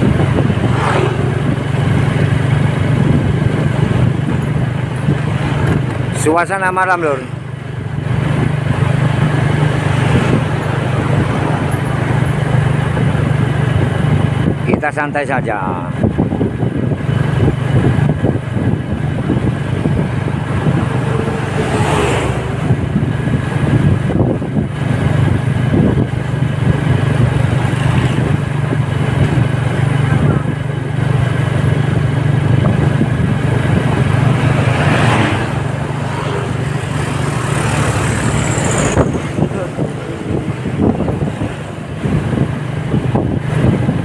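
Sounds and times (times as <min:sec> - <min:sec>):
road noise: 0:00.0 - 0:44.0
vehicle engine drone: 0:00.0 - 0:44.0
vehicles passing: 0:00.0 - 0:44.0.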